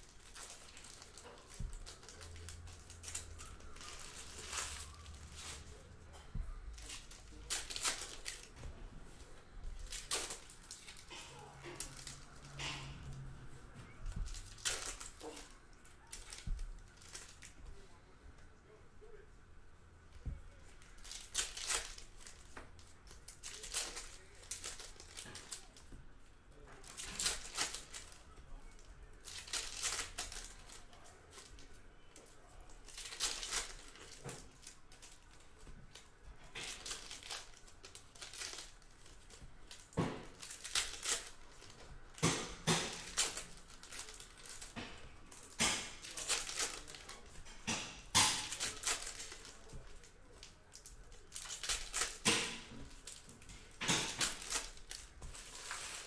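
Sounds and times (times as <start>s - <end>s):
plastic packaging crinkling: 0.0s - 8.8s, 9.4s - 18.1s, 20.2s - 26.0s, 26.6s - 56.0s.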